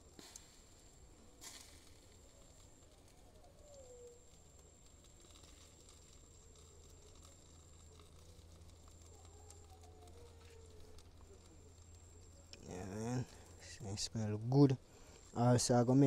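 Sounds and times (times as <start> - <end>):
outdoor evening ambience: 0.0 - 16.0.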